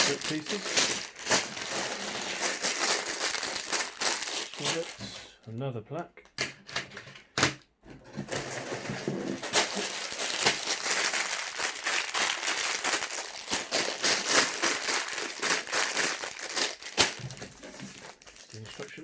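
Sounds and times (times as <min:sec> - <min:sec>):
plastic bags crinkling: 0:00.0 - 0:05.2, 0:08.3 - 0:19.0.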